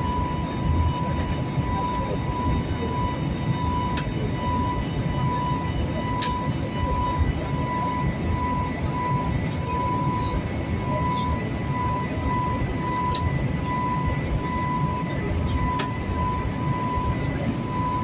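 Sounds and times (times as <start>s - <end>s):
airliner engine and airflow rumble: 0.0s - 18.0s.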